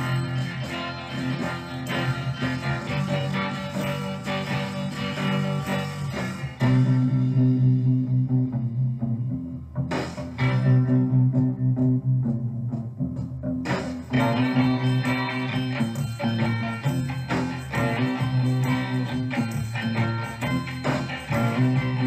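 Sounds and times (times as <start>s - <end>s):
slowed rock song: 0.0s - 22.0s.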